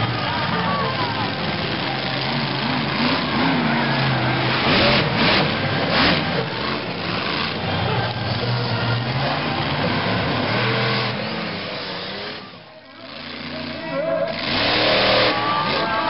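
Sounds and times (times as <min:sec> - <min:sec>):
monster truck engine running: 0:00.0 - 0:16.0.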